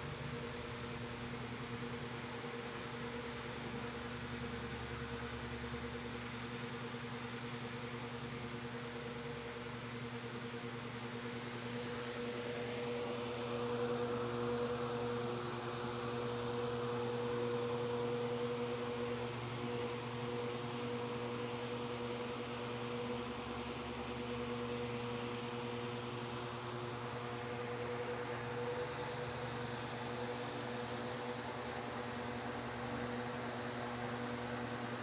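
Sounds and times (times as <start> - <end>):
low mechanical buzzing hum: 0.0 - 35.0.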